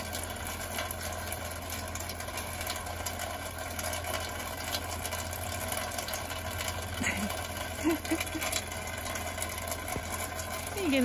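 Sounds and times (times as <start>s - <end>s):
low mechanical hum: 0.0s - 11.0s
steady rain falling: 0.0s - 11.0s
water dripping: 0.0s - 11.0s.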